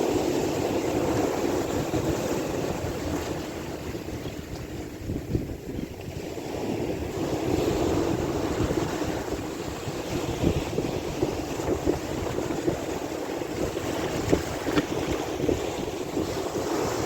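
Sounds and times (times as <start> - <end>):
sea waves washing: 0.0 - 17.0
wind buffeting microphone: 0.0 - 17.0.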